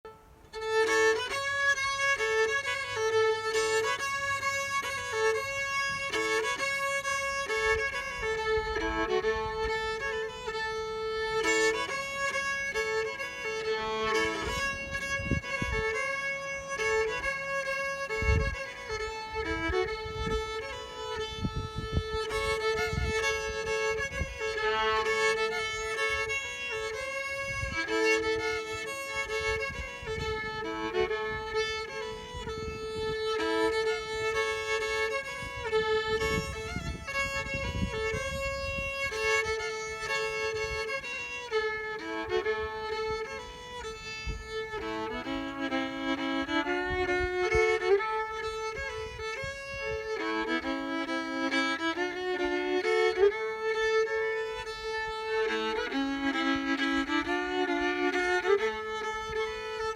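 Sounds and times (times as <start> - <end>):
fiddle playing a tune: 0.0 - 59.9.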